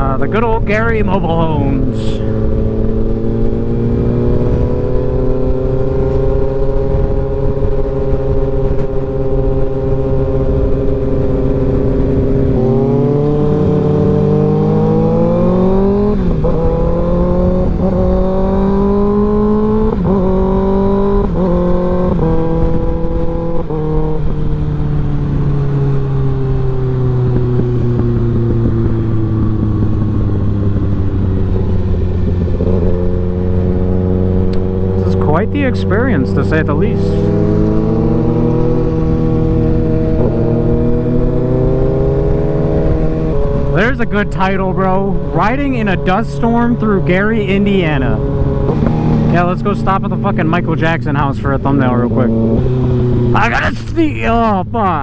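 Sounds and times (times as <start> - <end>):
wind on microphone: 0.0 - 50.1
motorcycle engine accelerating: 0.0 - 55.0.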